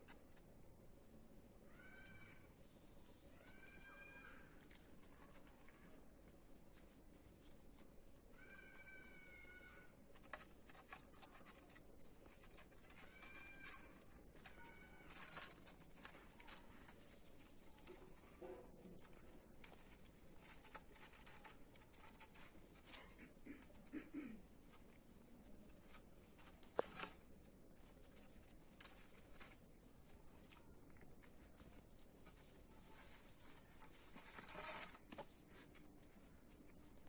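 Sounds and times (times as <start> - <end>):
soft clicks and rustles: 0.0 - 37.0.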